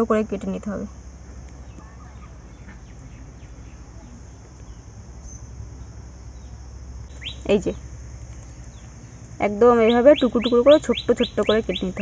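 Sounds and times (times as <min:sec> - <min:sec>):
insect drone: 0:00.0 - 0:12.0
faint bird chirps: 0:00.8 - 0:12.0.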